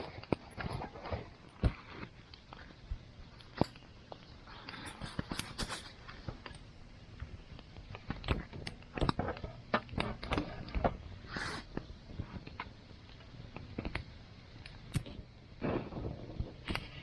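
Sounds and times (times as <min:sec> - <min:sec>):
low rumble of burning: 0:00.0 - 0:17.0.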